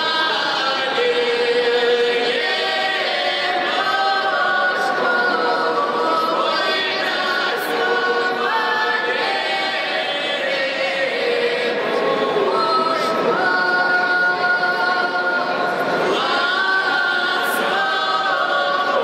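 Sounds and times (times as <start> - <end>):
unaccompanied choir singing: 0.0 - 19.0.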